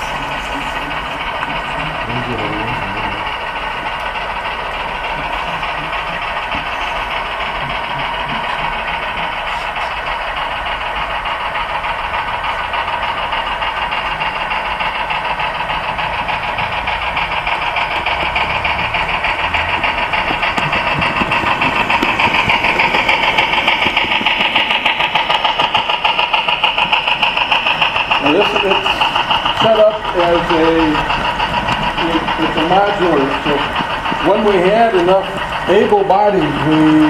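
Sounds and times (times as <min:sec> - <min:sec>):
model train motor whine: 0:00.0 - 0:37.0
small wheels clicking over rail: 0:00.0 - 0:37.0.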